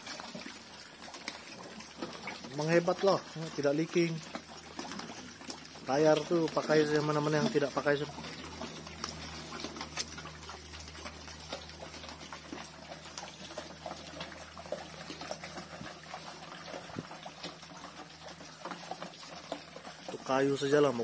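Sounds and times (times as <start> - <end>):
pigs slurping and chewing: 0.0 - 21.0.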